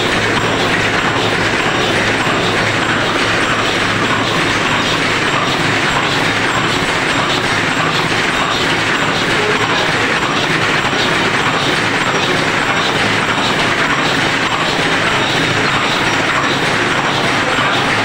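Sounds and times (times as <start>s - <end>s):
machine clattering: 0.0s - 18.0s.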